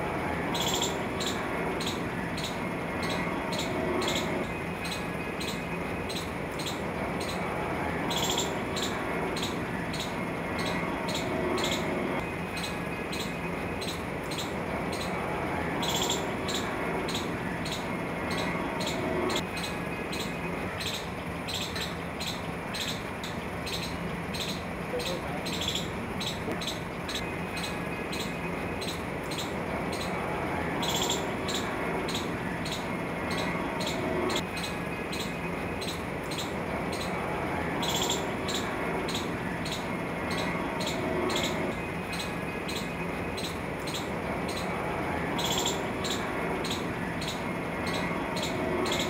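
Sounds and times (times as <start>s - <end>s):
low street background noise: 0.0s - 49.0s
outdoor background noise: 0.0s - 49.0s.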